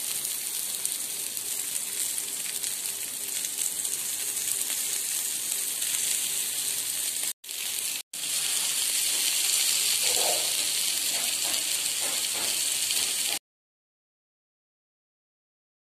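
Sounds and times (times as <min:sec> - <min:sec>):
fish sizzling in a pan: 0:00.0 - 0:13.4.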